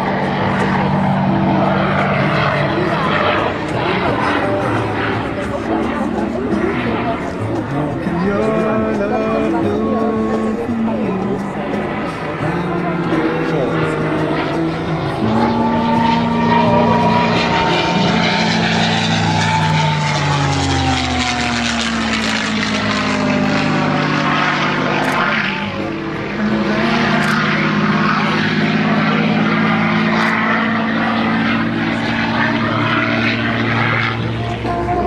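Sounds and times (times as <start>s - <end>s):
loud engine: 0.0s - 35.0s
propeller aircraft flying past: 0.0s - 35.0s.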